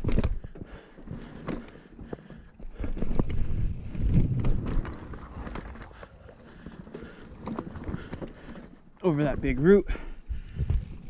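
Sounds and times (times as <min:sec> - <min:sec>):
mountain bike frame rattling: 0:00.0 - 0:11.0.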